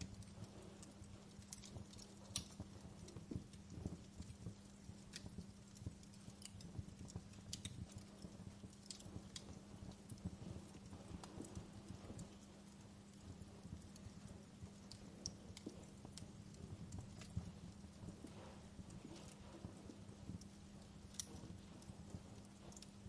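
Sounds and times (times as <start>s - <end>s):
low steady hum: 0.0s - 23.0s
wood fire crackling: 0.0s - 23.0s.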